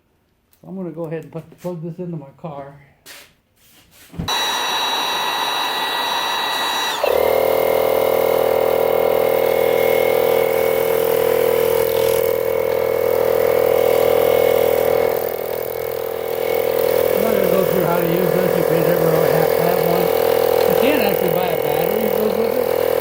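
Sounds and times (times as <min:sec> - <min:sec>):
tire inflator compressor buzzing: 0:04.3 - 0:23.0.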